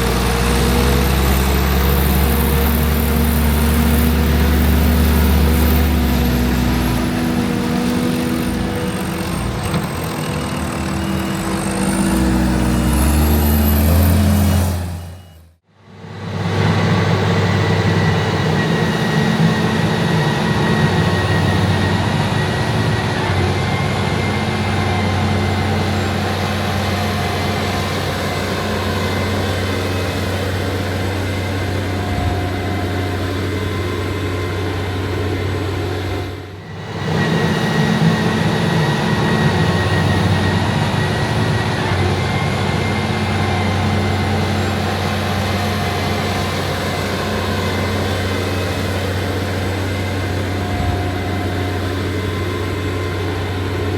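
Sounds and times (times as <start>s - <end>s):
heavy diesel machinery running: 0.0s - 53.9s
thin high whine: 0.0s - 53.9s.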